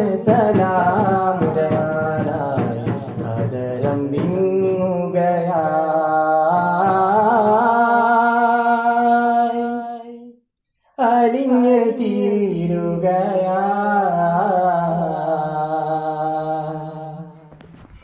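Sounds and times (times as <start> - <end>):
man singing into a microphone: 0.0 - 10.3, 11.0 - 17.5.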